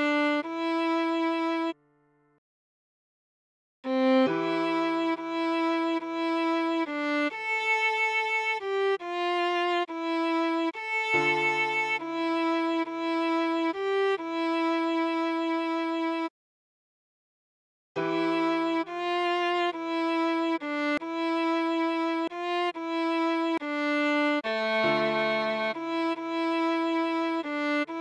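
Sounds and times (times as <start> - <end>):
viola melody: 0.0 - 1.8, 3.9 - 16.3, 18.0 - 28.0.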